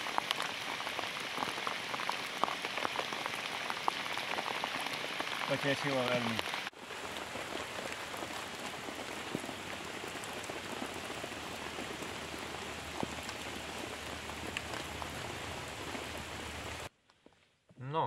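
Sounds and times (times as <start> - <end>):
rain falling on water: 0.0 - 16.9.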